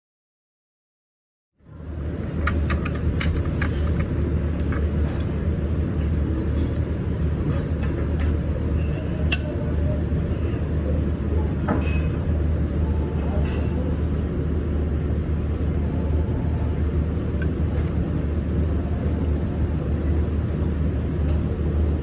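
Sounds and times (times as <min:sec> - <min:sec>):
low hum and rumble: 0:01.6 - 0:22.0.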